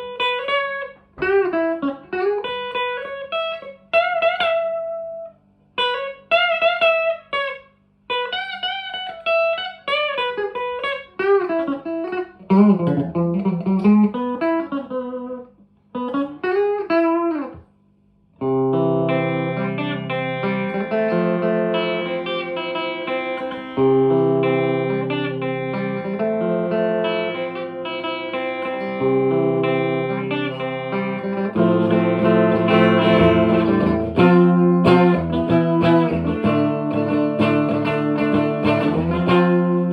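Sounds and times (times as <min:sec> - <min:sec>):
electric guitar chords ringing: 0:00.0 - 0:17.6, 0:18.4 - 0:39.9
electric guitar lead phrases: 0:00.0 - 0:17.6, 0:18.4 - 0:39.9.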